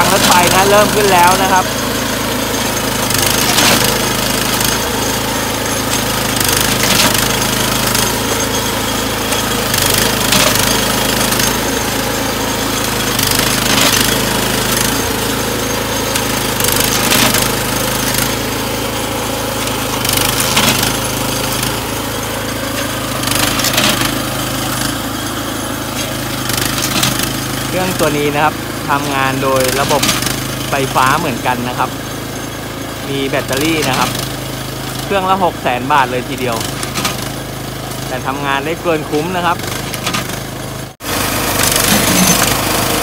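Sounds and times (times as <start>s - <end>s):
machine hum: 0.0s - 35.6s.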